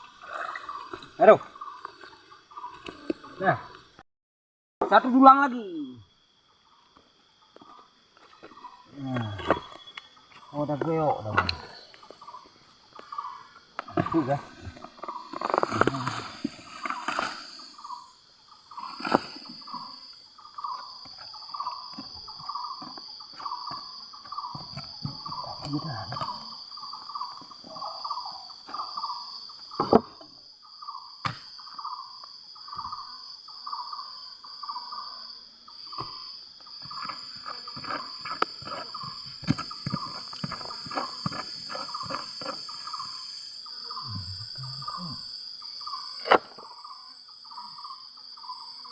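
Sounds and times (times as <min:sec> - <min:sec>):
insect drone: 0:00.0 - 0:04.0, 0:04.8 - 0:48.9.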